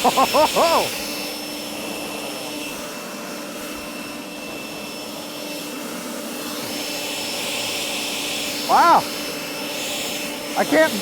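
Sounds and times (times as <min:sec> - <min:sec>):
leaf blower rushing whoosh: 0:00.0 - 0:11.0.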